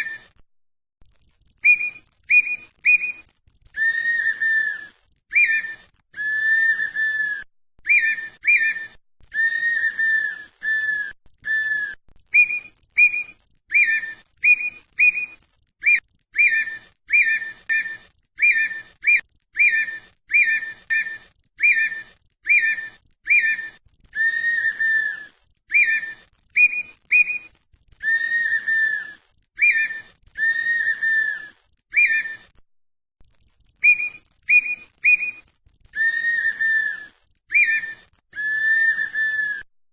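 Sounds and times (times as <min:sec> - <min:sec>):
bird whistling flute-like calls: 0:00.0 - 0:00.4, 0:01.6 - 0:32.6, 0:33.8 - 0:39.7.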